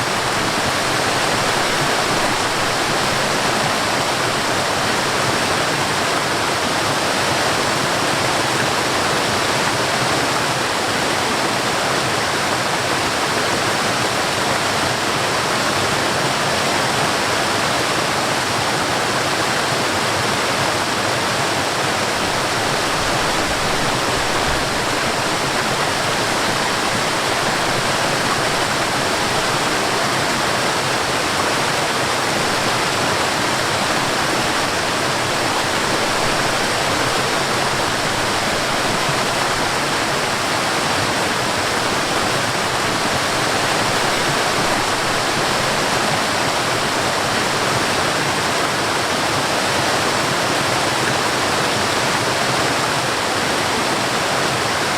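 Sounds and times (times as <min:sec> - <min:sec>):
waterfall and stream rushing: 0:00.0 - 0:54.9.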